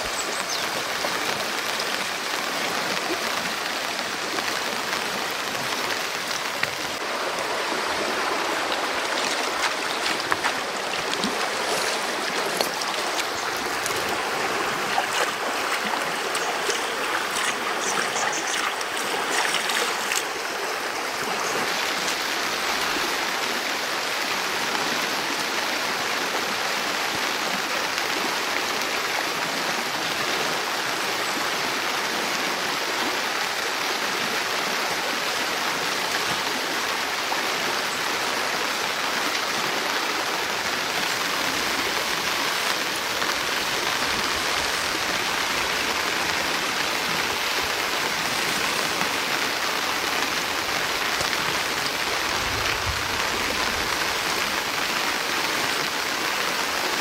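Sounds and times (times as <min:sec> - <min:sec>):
steady water noise: 0:00.0 - 0:57.0.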